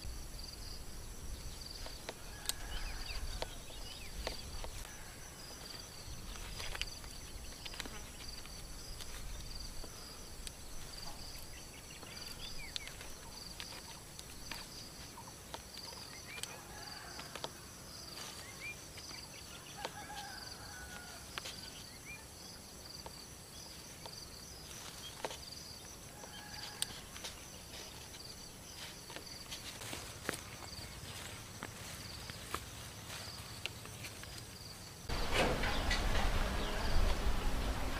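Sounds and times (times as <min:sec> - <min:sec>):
pulsing insect chorus: 0:00.0 - 0:37.9.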